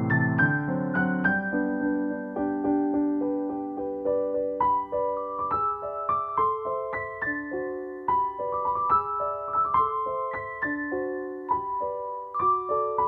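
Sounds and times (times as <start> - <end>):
gentle solo piano: 0.0 - 13.0.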